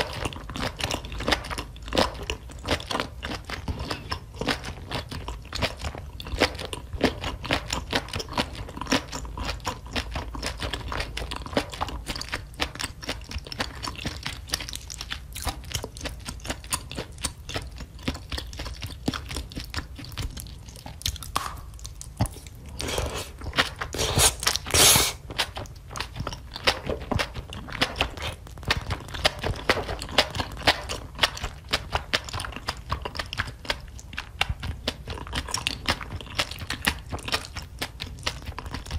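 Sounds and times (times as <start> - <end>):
wet chewing with crunches: 0.0 - 38.9.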